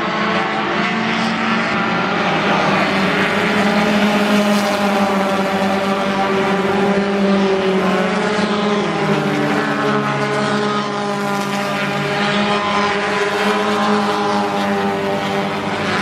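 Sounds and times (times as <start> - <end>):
stock car engines racing: 0.0 - 16.0.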